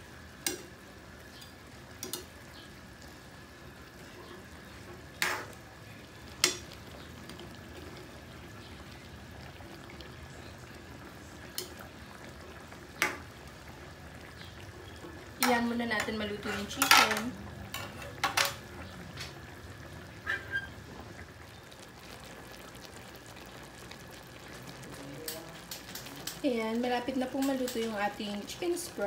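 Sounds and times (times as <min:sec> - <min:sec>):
sauce sizzling in wok: 0:00.0 - 0:29.0.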